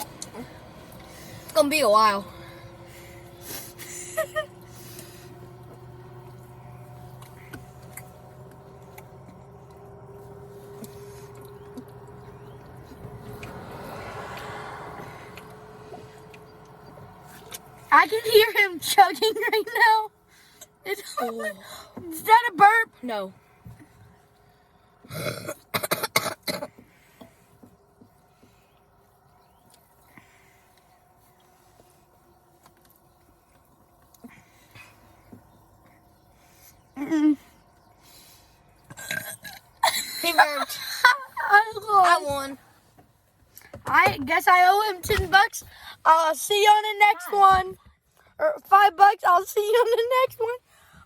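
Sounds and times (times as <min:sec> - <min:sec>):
steady low hum: 0:00.0 - 0:43.3.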